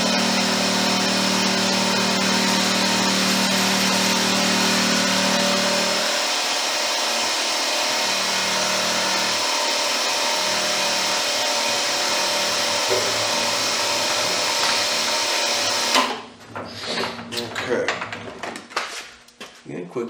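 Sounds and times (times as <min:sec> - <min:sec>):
milling machine running: 0:00.0 - 0:16.2.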